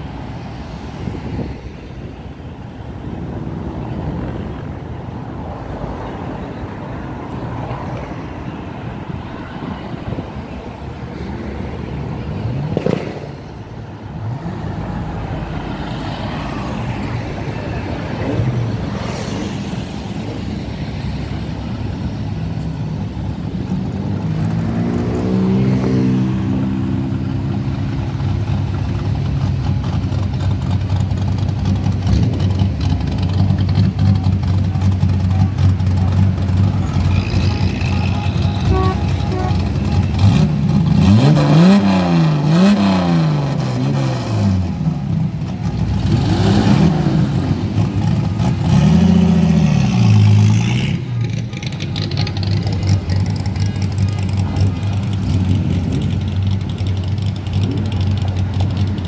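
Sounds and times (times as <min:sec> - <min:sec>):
car engines passing: 0:00.0 - 0:59.0.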